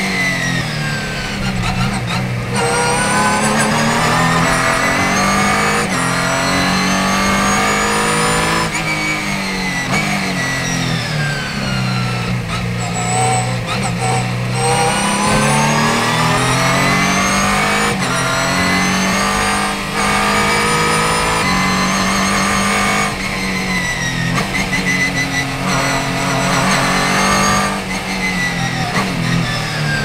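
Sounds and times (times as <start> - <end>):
race car engine revving hard: 0.0 - 30.0
gear shifts: 0.2 - 30.0.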